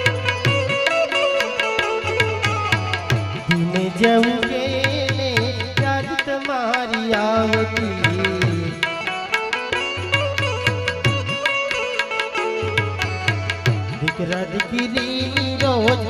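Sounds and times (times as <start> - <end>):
harmonium: 0.0 - 16.0
plucked banjo melody: 0.0 - 16.0
tabla strokes: 0.0 - 16.0.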